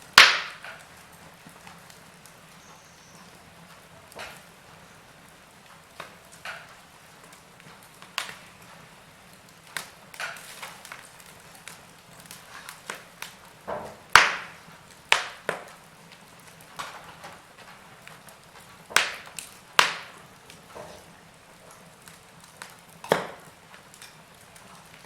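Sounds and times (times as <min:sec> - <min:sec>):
fire hissing: 0:00.0 - 0:25.0
wood fire crackling: 0:00.0 - 0:25.0.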